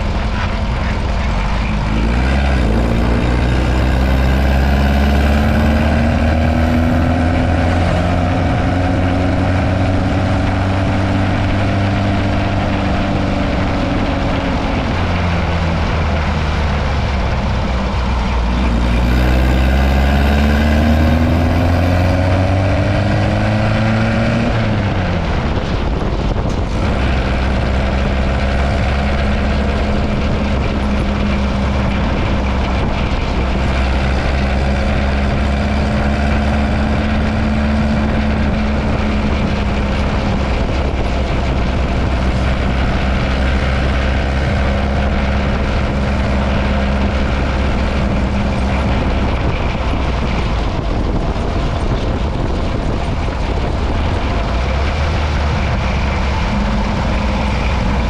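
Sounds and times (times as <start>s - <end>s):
dune buggy engine running: 0.0s - 58.0s
road noise: 0.0s - 58.0s.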